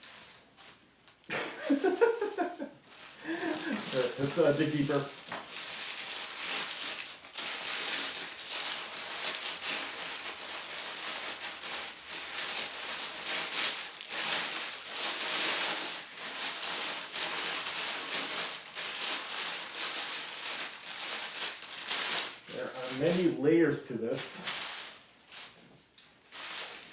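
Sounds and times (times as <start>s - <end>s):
wrapping paper crinkling: 0.0s - 26.9s.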